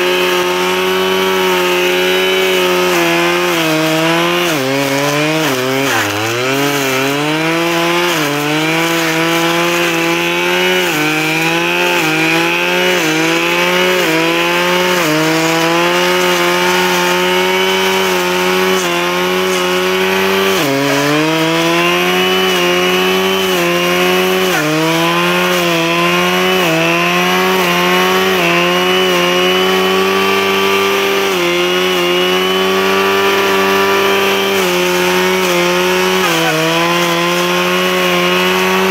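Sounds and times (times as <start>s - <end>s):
blade cutting through brush: 0.0s - 38.9s
brushcutter engine running: 0.0s - 38.9s.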